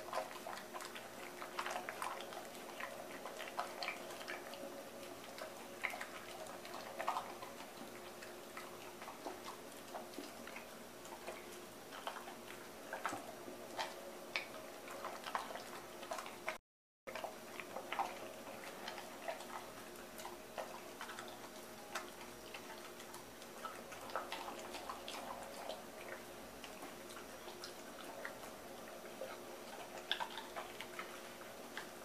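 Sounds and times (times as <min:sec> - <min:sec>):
dog chewing from metal bowl: 0:00.0 - 0:32.0
faint steady hum: 0:00.0 - 0:32.0.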